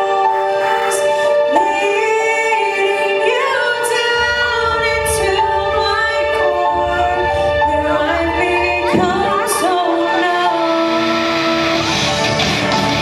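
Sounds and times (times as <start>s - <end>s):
woman singing long notes: 0.0s - 11.2s
sustained chords: 0.0s - 13.0s.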